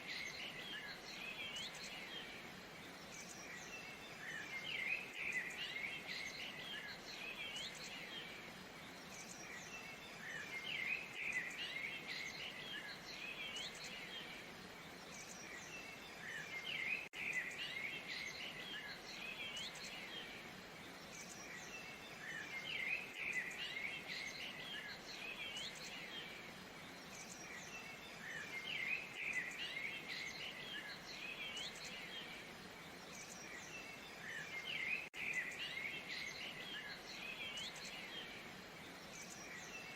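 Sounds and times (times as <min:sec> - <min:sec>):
faint rush of water: 0:00.0 - 0:39.9
small birds chirping and trilling: 0:00.0 - 0:39.9.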